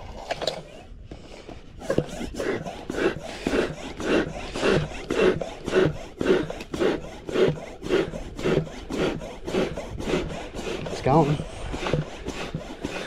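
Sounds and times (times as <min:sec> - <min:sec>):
hand air pump strokes: 0:00.0 - 0:13.0.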